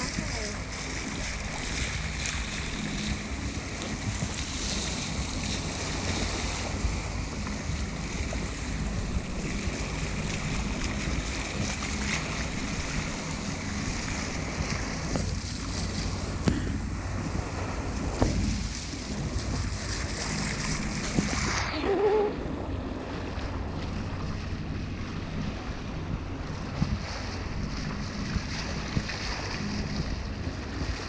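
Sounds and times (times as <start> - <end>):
low steady hum: 0.0 - 31.0
sea water rushing past hull: 0.0 - 31.0
wind buffeting microphone: 0.0 - 31.0.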